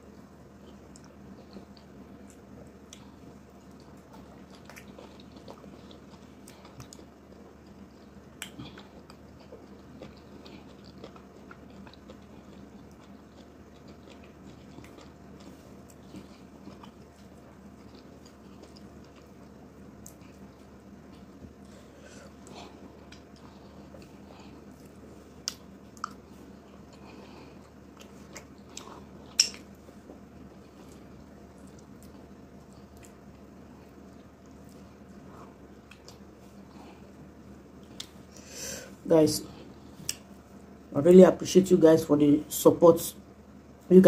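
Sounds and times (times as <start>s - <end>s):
chewing with wet clicks: 0.6s - 37.2s, 37.8s - 38.3s, 39.9s - 40.3s.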